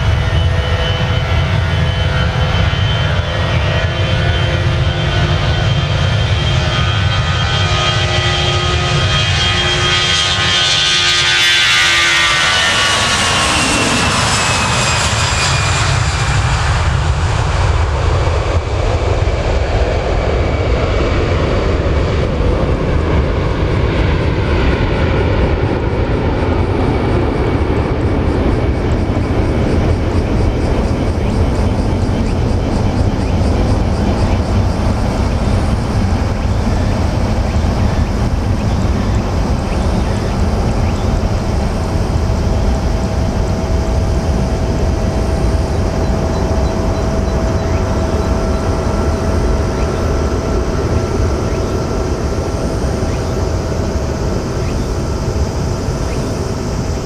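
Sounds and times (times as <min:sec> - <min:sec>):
jet engines whining: 0:00.0 - 0:57.0
low jet rumble: 0:00.0 - 0:57.0.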